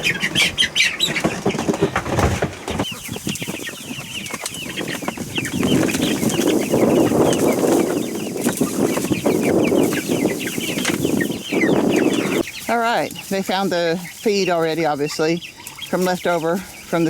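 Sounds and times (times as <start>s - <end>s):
chicks peeping: 0.0s - 17.0s
steady rustling: 0.0s - 17.0s.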